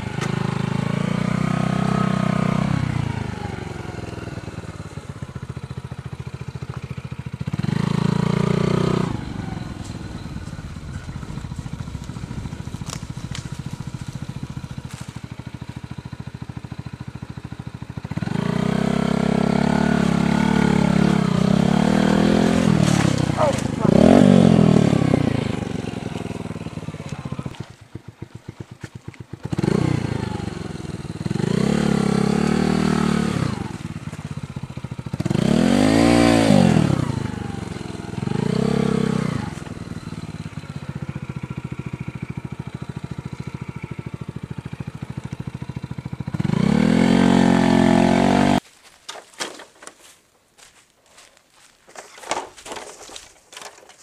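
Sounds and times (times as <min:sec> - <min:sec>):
motorcycle engine revving: 0:00.0 - 0:48.7.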